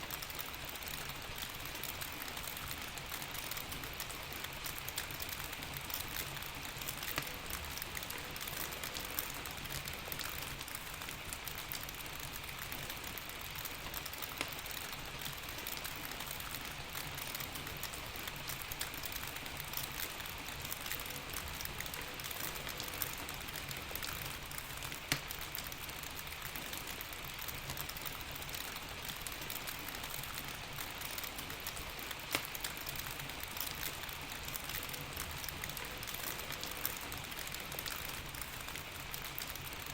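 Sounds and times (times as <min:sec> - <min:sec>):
steady rain: 0:00.0 - 0:39.9
fireplace crackling: 0:00.1 - 0:39.9.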